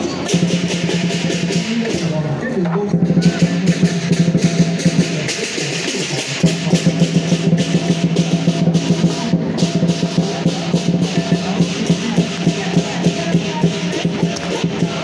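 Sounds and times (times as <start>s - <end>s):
big drum rolling with accented hits: 0.0s - 15.0s.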